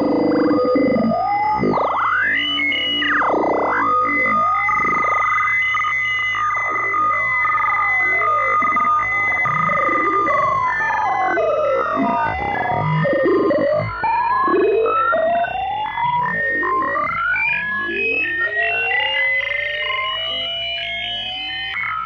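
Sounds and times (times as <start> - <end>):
high held electronic tones: 0.0 - 21.8
swooping electronic tones: 0.0 - 22.0.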